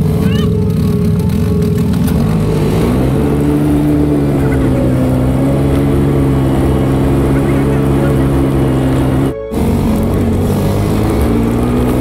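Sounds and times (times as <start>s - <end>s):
atv engine accelerating: 0.0s - 12.0s.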